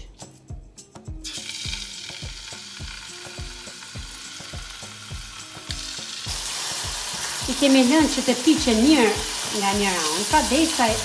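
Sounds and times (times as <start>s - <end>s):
chicken sizzling in a frying pan: 1.2s - 11.0s.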